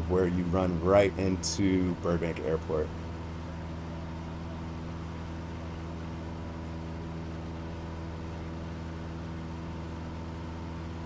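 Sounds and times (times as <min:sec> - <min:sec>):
airplane engine droning in cabin: 0:00.0 - 0:11.0.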